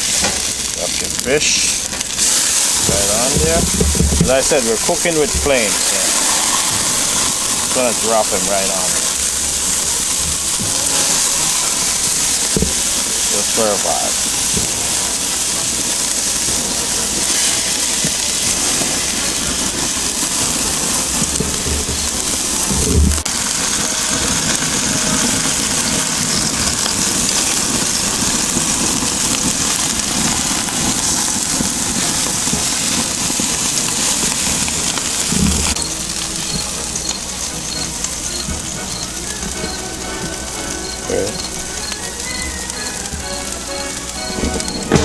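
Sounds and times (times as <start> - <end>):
fish sizzling on a grill: 0.0 - 45.0.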